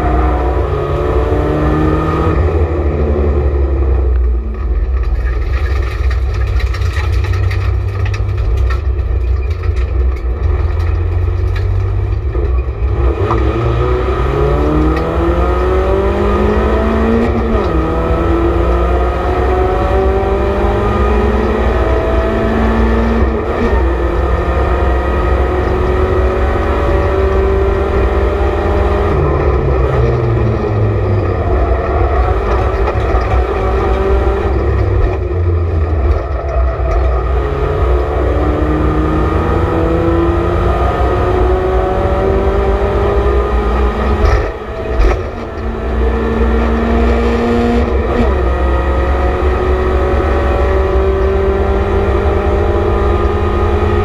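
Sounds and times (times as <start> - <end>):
race car engine revving: 0.0 - 4.4, 10.3 - 54.0.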